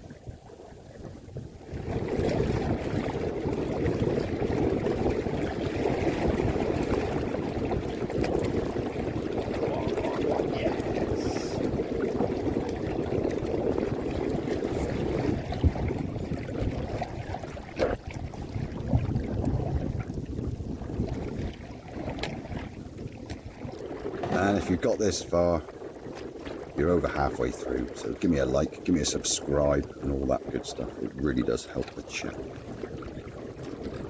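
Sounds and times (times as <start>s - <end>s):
water rushing along a hull: 0.0s - 34.0s
wind buffeting microphone: 0.0s - 34.0s.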